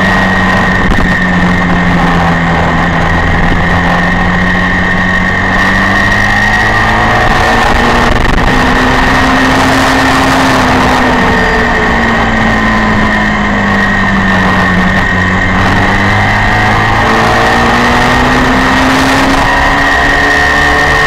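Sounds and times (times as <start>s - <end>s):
heavy wind noise: 0.0s - 21.0s
motorcycle engine at racing speed: 0.0s - 21.0s.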